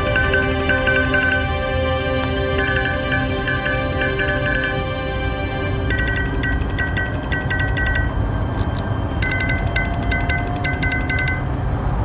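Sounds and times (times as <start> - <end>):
smartphone ringtone: 0.0 - 5.1, 5.8 - 8.4, 9.1 - 11.6.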